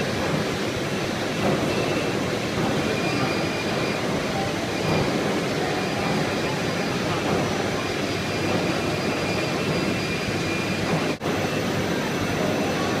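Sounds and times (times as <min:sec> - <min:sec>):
dumping machine running: 0:00.0 - 0:13.0.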